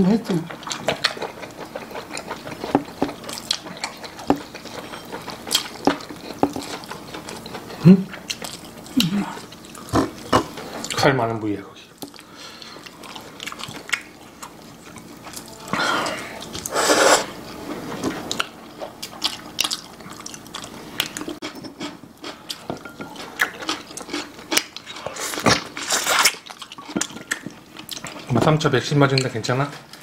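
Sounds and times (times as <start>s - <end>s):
wet chewing and lip-smacking: 0.5s - 11.0s, 12.0s - 15.6s, 18.0s - 28.3s.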